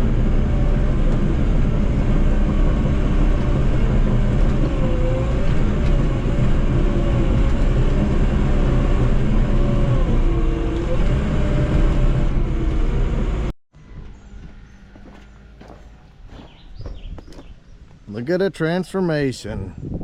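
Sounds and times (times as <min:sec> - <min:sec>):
diesel engine running: 0:00.0 - 0:18.8.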